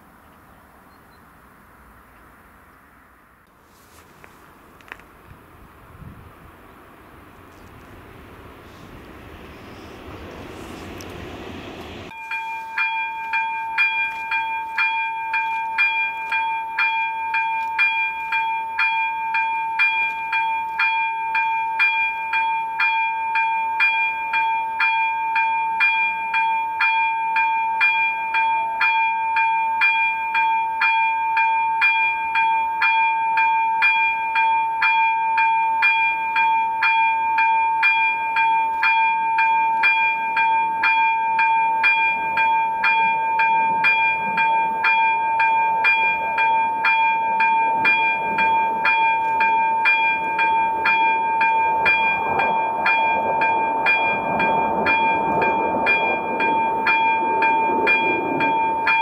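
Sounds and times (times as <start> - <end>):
level crossing warning bell: 7.2 - 59.0.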